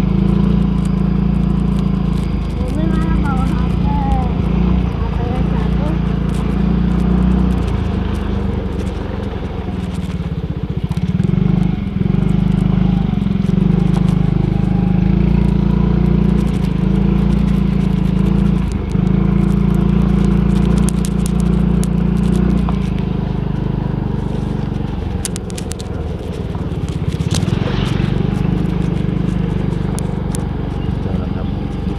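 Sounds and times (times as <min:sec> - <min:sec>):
small motorcycle engine running: 0:00.0 - 0:31.9
clicks and rattles: 0:00.2 - 0:31.9.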